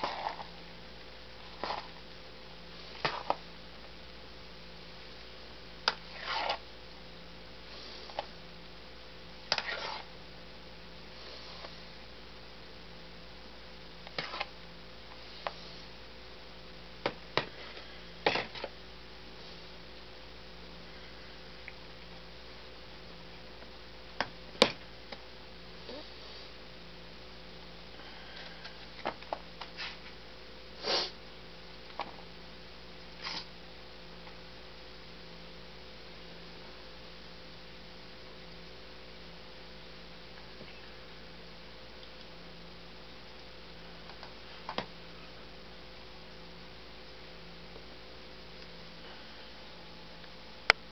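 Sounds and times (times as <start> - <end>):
background hiss: 0.0 - 50.9
electrical hum: 0.0 - 50.9.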